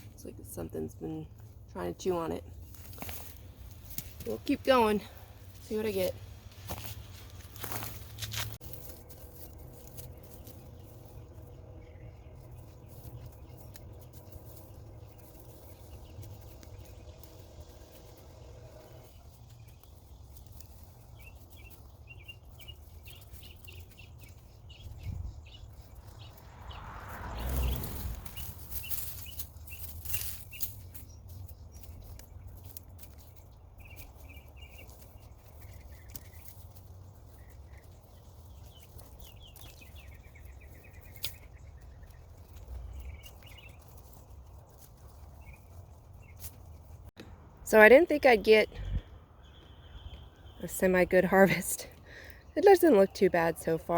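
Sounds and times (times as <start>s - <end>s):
birds chirping: 0.0s - 53.9s
soil rustling: 1.1s - 53.9s
hands digging in soil: 2.0s - 47.1s.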